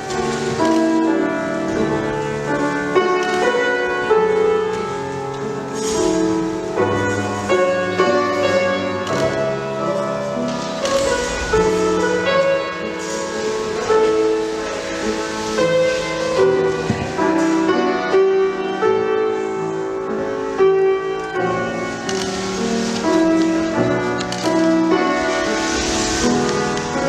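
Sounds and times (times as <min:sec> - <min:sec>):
classical piano music: 0:00.0 - 0:27.0.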